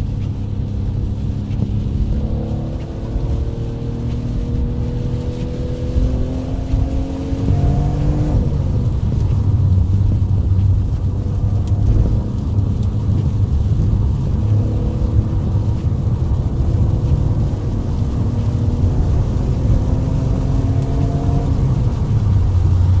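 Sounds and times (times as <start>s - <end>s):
car engine accelerating: 0.0s - 23.0s
road noise: 0.0s - 23.0s.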